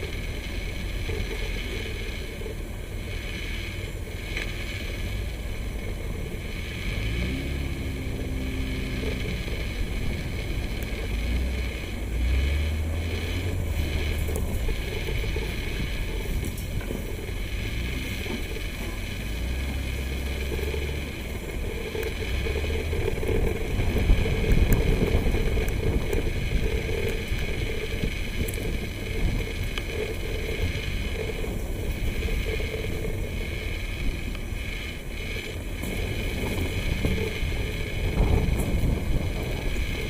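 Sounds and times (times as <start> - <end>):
tyres rolling over gravel: 0.0 - 40.0
vehicle engine running: 0.0 - 40.0.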